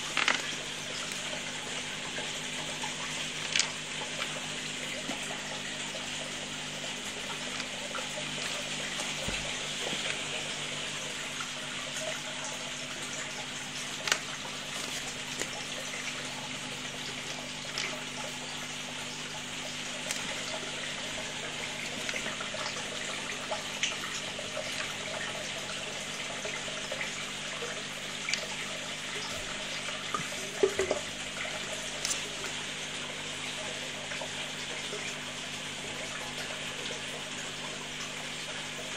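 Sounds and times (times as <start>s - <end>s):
water splashing and trickling: 0.0s - 38.9s.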